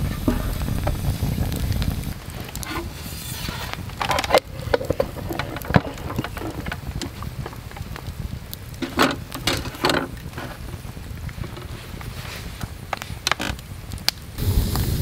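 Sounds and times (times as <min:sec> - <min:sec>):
low rumble: 0:00.0 - 0:11.4, 0:14.4 - 0:15.0
campfire crackling: 0:00.0 - 0:15.0.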